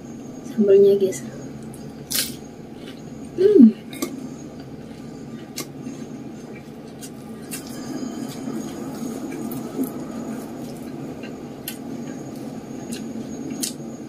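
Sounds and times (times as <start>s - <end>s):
close-up chewing: 1.6s - 13.8s.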